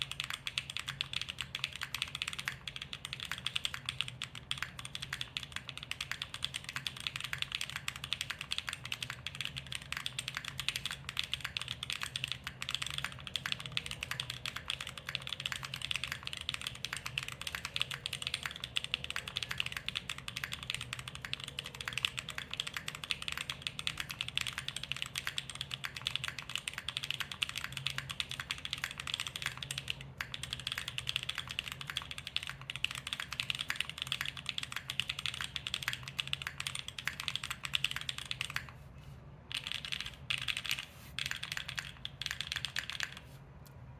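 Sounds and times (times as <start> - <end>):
mechanical keyboard typing: 0.0 - 38.8, 39.5 - 43.3.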